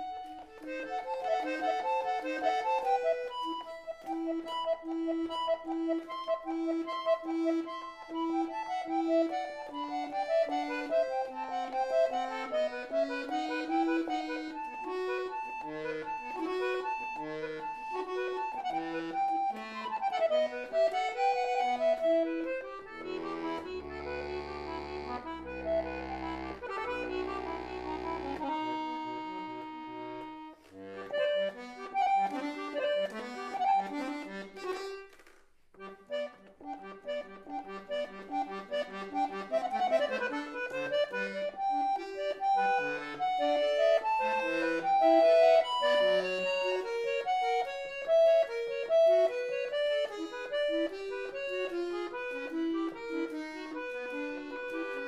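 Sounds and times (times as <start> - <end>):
harpsichord playing: 0.0 - 34.6, 37.1 - 55.0.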